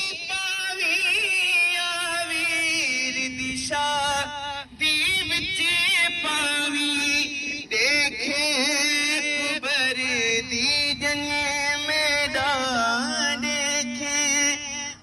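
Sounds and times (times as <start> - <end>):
man chanting over loudspeakers: 0.0 - 15.0.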